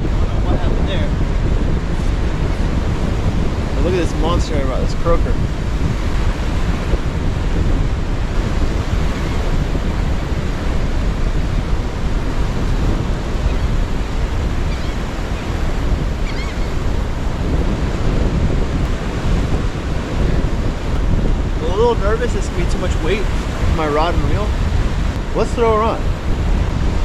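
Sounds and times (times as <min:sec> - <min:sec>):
surf washing in: 0:00.0 - 0:27.0
wind buffeting the microphone: 0:00.0 - 0:27.0.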